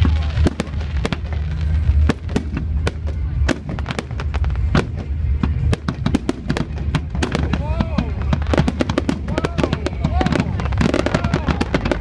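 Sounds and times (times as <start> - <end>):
fireworks bangs and cracks: 0.0 - 12.0
low rumble: 0.0 - 12.0.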